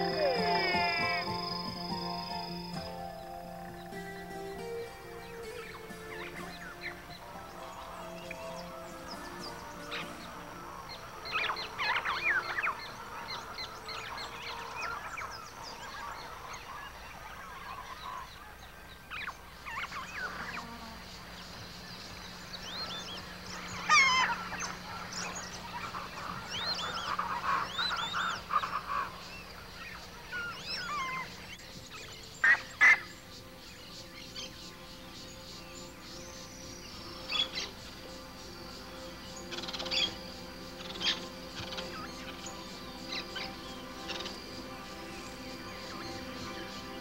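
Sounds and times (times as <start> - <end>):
wild birds calling: 0.0 - 47.0.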